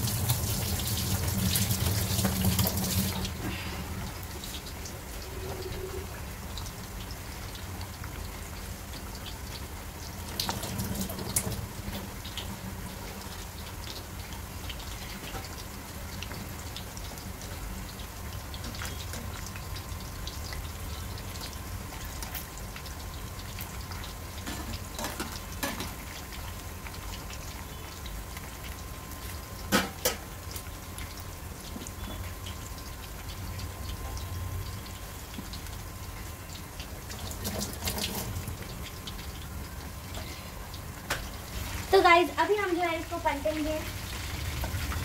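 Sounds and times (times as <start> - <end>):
chicken deep-frying in oil: 0.0 - 45.0.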